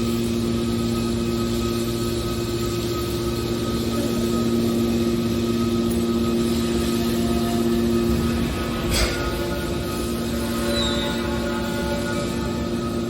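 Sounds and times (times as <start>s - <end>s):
motor and pump humming: 0.0s - 13.0s.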